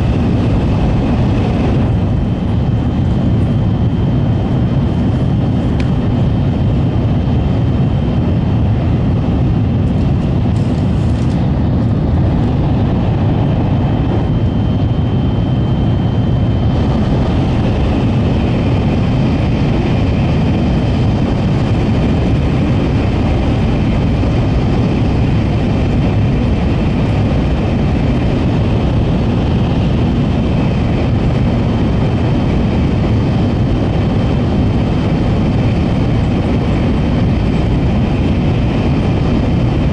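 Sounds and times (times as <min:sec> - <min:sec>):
train wheels and air rush rumble: 0:00.0 - 0:39.9.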